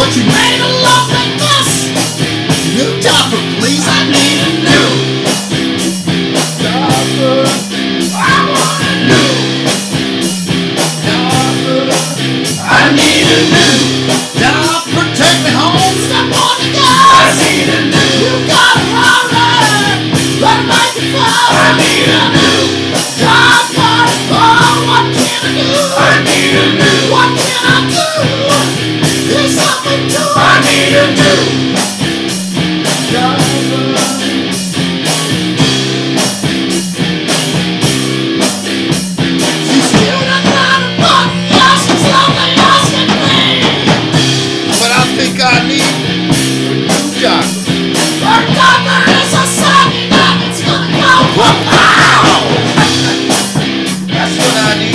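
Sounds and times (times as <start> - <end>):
bending lead guitar line: 0.0 - 54.9
distorted electric guitars: 0.0 - 54.9
driving drum beat: 0.0 - 54.9
hard rock music: 0.0 - 54.9.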